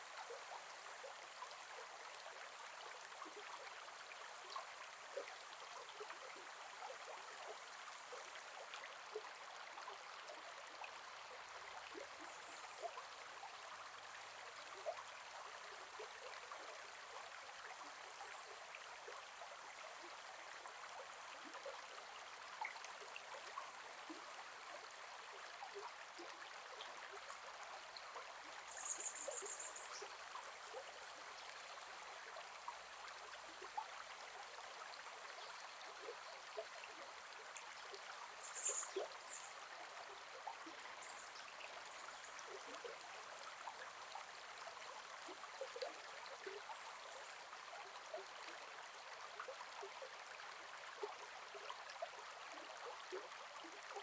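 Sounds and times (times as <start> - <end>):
forest river flowing: 0.0 - 54.0.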